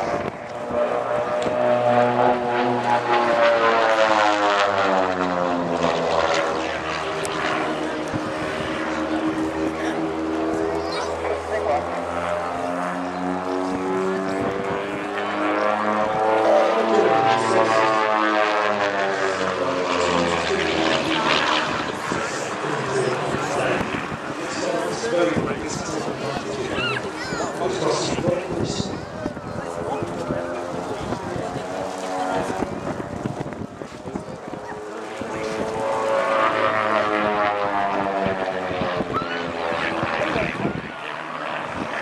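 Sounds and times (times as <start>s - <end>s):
propeller aircraft flying past: 0.0s - 42.0s.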